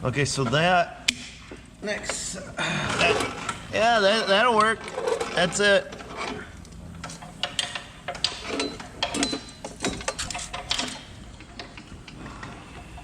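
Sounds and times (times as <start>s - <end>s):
metal equipment clanking: 2.0s - 13.0s.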